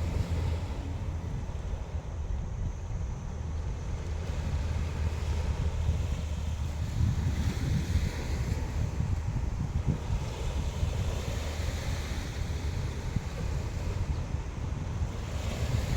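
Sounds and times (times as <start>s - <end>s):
sea waves on shore: 0.0s - 15.9s
wind buffeting microphone: 0.0s - 15.9s.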